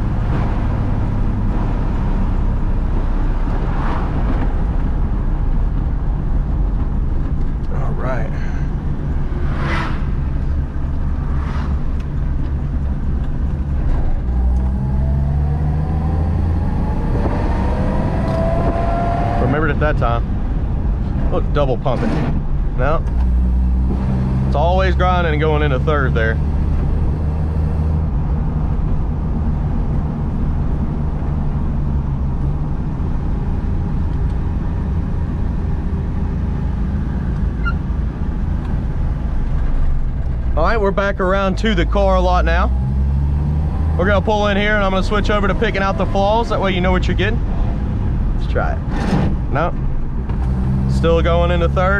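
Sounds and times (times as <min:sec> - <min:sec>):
road noise: 0:00.0 - 0:51.9.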